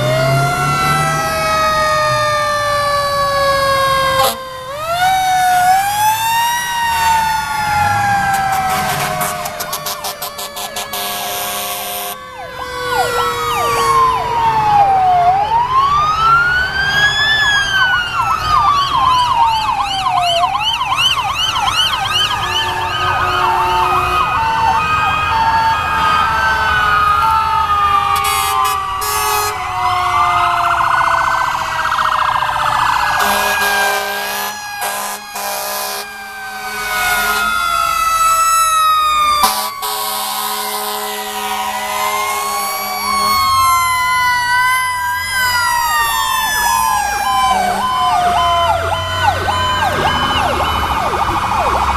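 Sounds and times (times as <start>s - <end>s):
fire truck sirens wailing: 0.0s - 51.9s.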